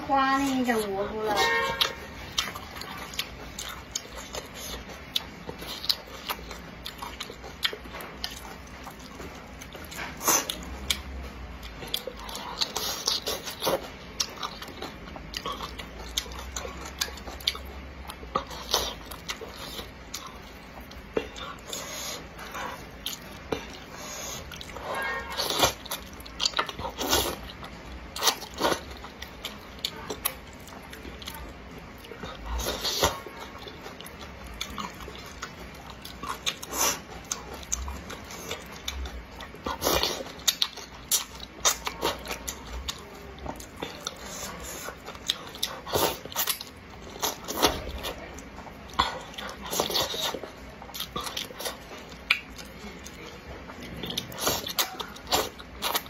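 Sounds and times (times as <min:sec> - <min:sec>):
wet chewing and slurping: 0:01.6 - 0:56.0.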